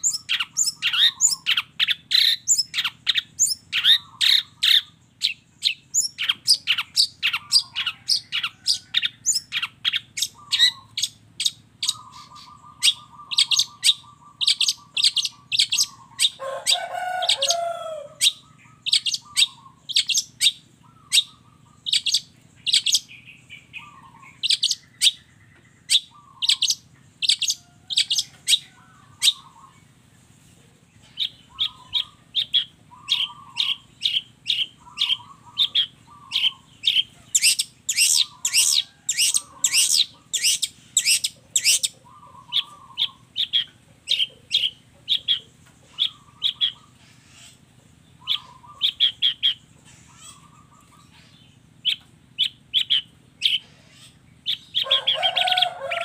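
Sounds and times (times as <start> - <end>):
bird warbling: 0.0 - 30.0, 31.0 - 56.0
bird chirping: 0.0 - 56.0.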